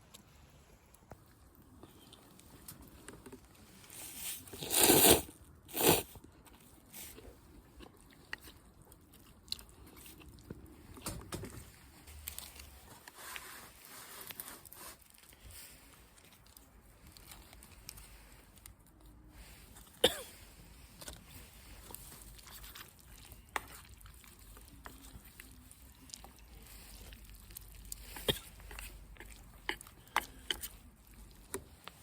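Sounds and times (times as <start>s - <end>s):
crunching and rustling handling: 0.1s - 32.0s.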